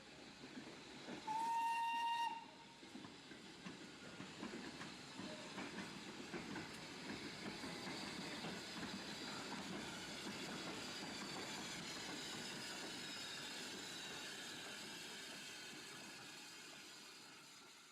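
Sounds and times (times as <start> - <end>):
train rumbling and hissing: 0.0 - 17.9.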